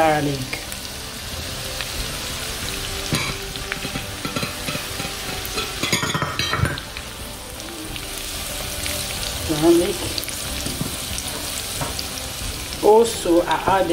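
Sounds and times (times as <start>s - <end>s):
vegetables sizzling in oil: 0.0s - 13.9s.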